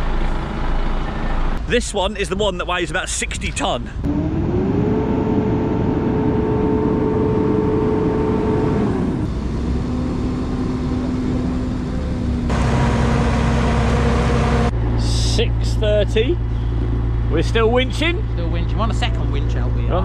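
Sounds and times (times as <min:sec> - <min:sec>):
truck diesel engine running: 0:00.0 - 0:01.6, 0:03.9 - 0:20.0.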